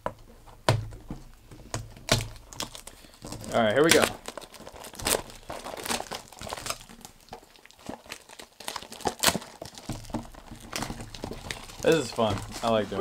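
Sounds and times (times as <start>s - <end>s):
packaging crinkling and tearing: 1.7s - 13.0s.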